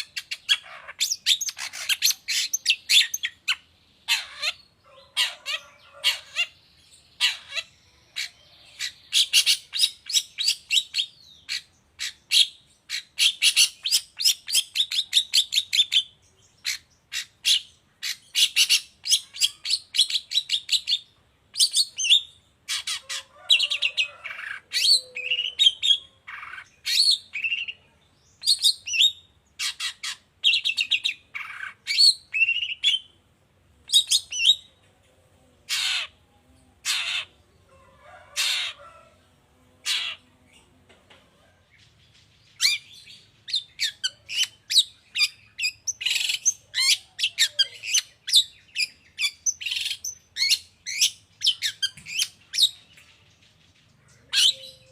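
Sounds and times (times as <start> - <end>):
bird harsh calls: 0.0 - 33.2, 35.5 - 40.8, 42.0 - 53.1, 53.9 - 54.9.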